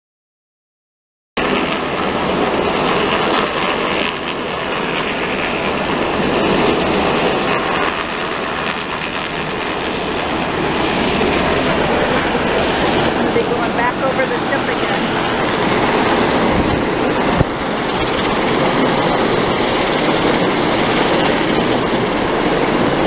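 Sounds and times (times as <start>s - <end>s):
helicopter flying low overhead: 1.4s - 23.0s.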